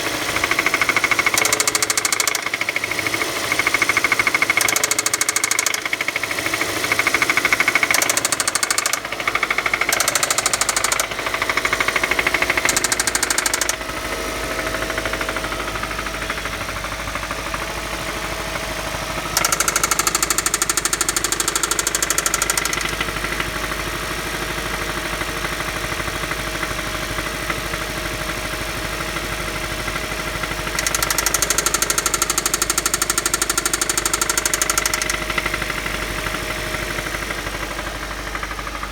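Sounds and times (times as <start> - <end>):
engine knocking and revving: 0.0 - 38.9.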